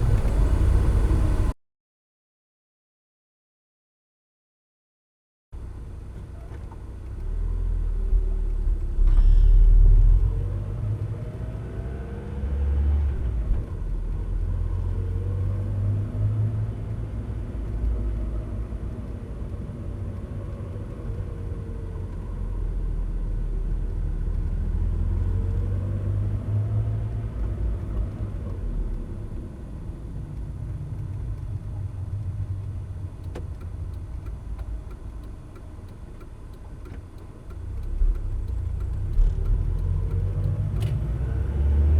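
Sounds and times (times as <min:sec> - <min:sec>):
car engine and road rumble: 0:00.0 - 0:01.6, 0:05.6 - 0:41.9
engine whine rising and falling: 0:07.2 - 0:41.9.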